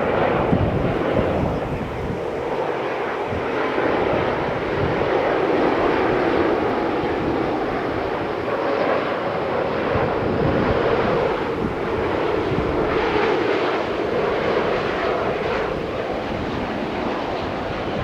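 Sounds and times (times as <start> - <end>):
jet airliner engines rushing: 0.0 - 18.0.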